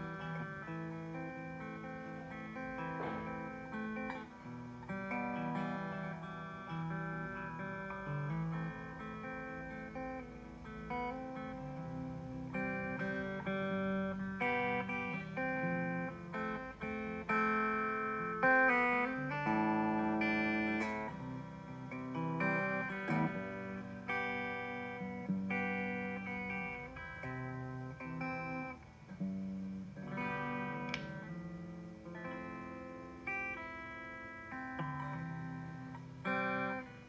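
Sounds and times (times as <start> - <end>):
acoustic guitar chords: 0.0 - 37.0.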